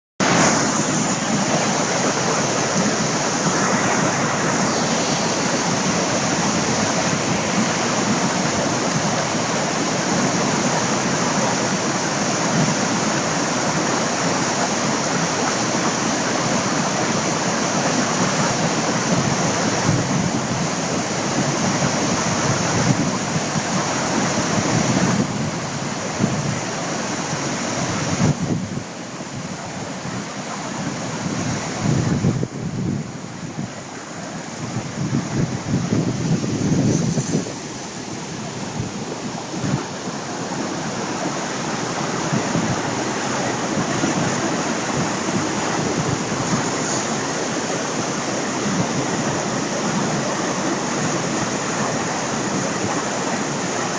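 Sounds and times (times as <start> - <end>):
brook water rushing: 0.2 - 53.9.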